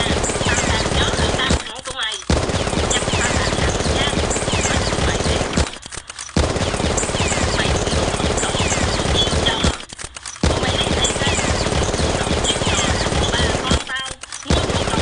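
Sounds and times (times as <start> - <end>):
automatic gunfire: 0.0 - 15.0.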